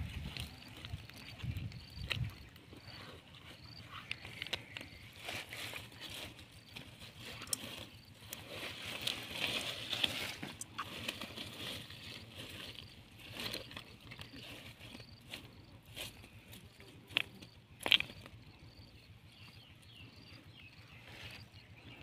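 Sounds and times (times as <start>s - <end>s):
hands rummaging through wet mud: 0.0s - 18.8s.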